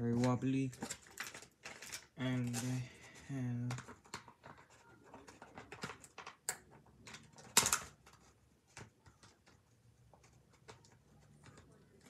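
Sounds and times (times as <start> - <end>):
toy packaging crinkling: 0.0 - 12.0.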